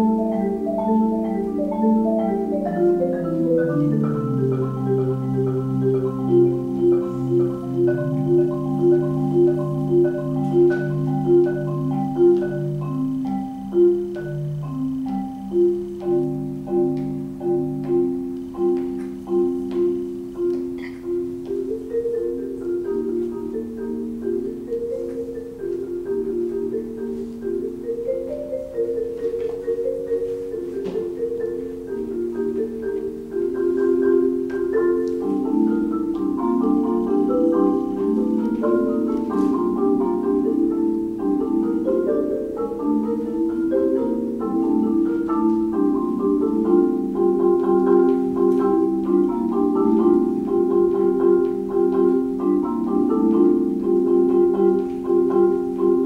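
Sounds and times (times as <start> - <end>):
solo marimba: 0.0 - 56.0.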